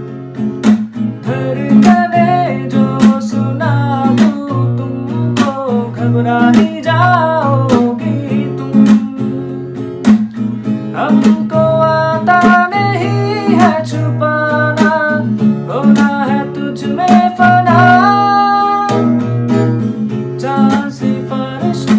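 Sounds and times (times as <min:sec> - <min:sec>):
song with acoustic guitar: 0:00.0 - 0:21.9.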